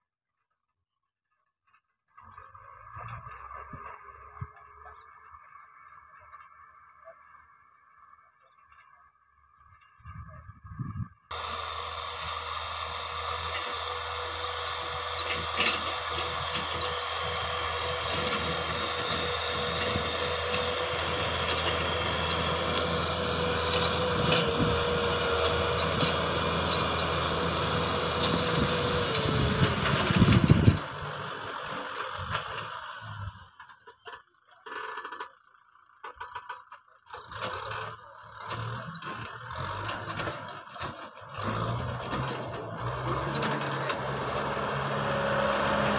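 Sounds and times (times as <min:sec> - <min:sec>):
tractor diesel engine running: 0:02.1 - 0:45.9.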